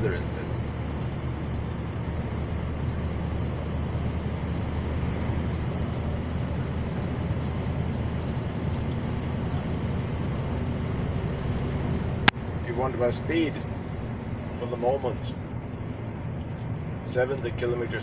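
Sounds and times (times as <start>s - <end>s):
road and tyre noise: 0.0s - 18.0s
truck engine drone: 0.0s - 18.0s.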